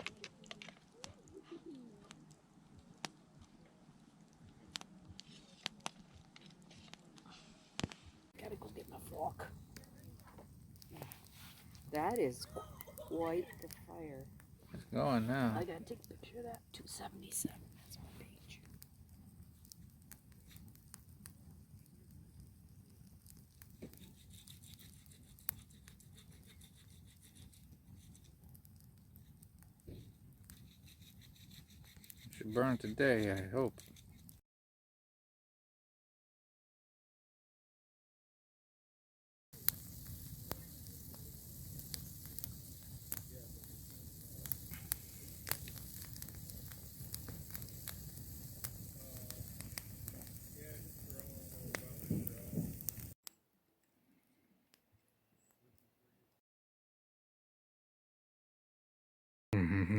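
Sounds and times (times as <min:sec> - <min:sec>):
campfire crackling: 0:00.0 - 0:34.4, 0:39.6 - 0:53.2
fire pops: 0:00.0 - 0:34.4, 0:39.6 - 0:53.2.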